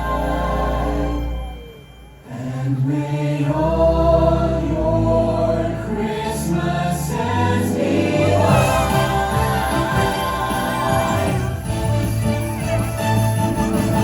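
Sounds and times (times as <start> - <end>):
choir singing long notes: 0.0 - 12.4.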